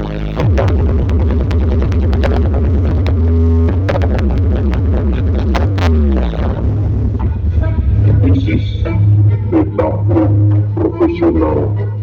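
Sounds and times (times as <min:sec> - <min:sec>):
loud bass-heavy electronic dance music: 0:00.0 - 0:12.0.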